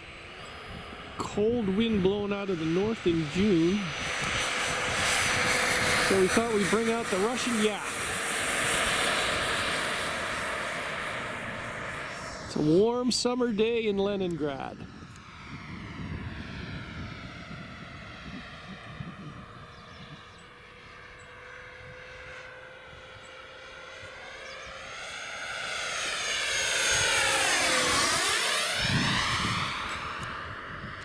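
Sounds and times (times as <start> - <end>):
model jet fans whining: 0.0 - 31.0.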